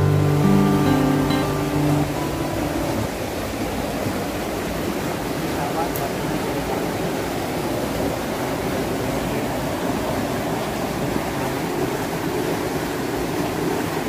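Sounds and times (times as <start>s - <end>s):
stream rushing and splashing: 0.0s - 14.0s.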